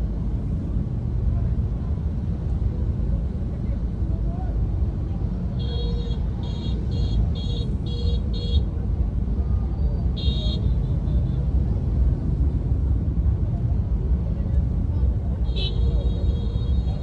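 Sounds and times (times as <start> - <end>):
car cabin rumble in traffic: 0.0 - 17.0.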